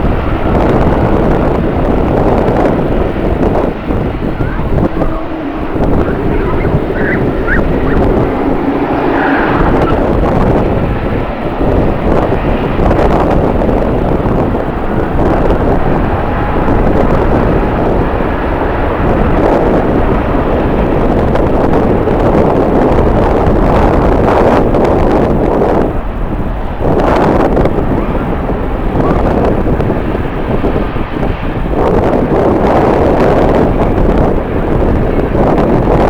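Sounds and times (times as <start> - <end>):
jet engine noise: 0.0 - 36.0
wind buffeting microphone: 0.0 - 36.0.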